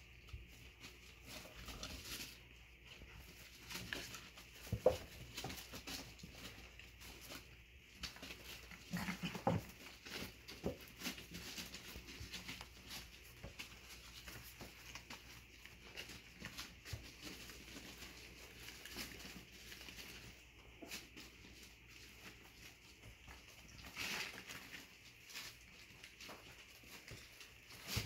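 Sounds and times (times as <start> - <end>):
puppy paws pattering and clicking: 0.0 - 28.0
small taps and rustles: 0.0 - 28.0.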